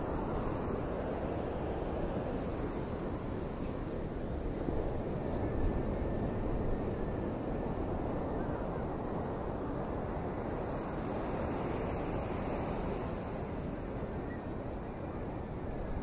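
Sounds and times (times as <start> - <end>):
hurricane wind: 0.0 - 16.0
wind buffeting the microphone: 0.0 - 16.0.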